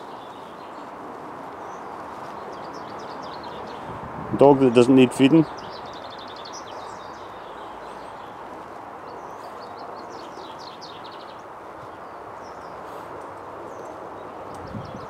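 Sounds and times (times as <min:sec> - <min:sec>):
songbird chirping and trilling: 0:00.0 - 0:04.0, 0:05.1 - 0:15.0
outdoor background hiss: 0:00.0 - 0:15.0.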